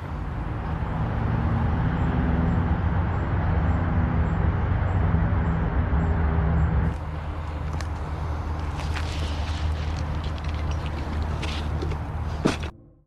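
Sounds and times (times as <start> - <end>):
low engine hum: 0.0 - 12.8
road traffic drone: 0.0 - 13.0.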